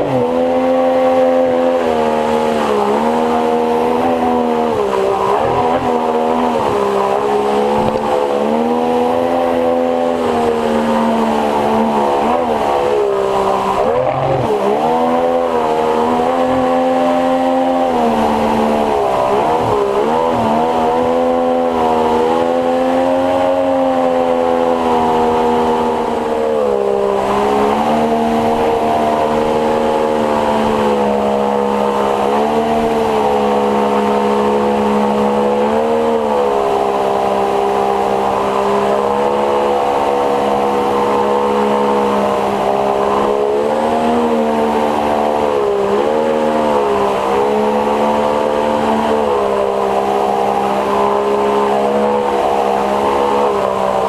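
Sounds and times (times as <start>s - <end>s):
boat moving through water: 0.0s - 54.0s
outboard motor running: 0.0s - 54.0s.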